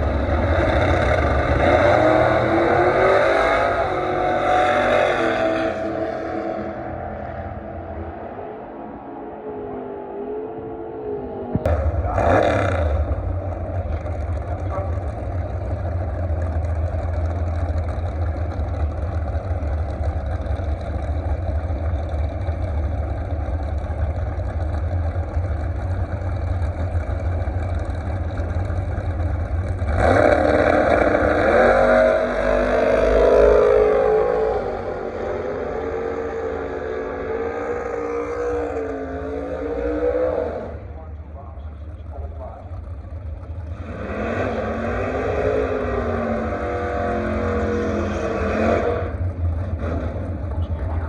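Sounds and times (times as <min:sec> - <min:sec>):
drag racing car engine: 0:00.0 - 0:51.0.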